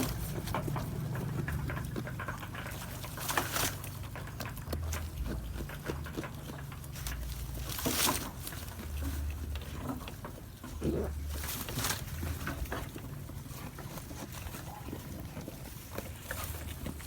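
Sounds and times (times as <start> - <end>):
goat chewing crunchy food: 0.0 - 17.0.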